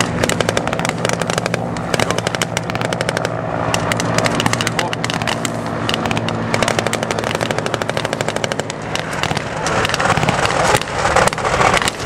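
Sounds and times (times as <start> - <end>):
diesel engine running: 0.0 - 12.0
machine-gun fire: 0.0 - 12.0.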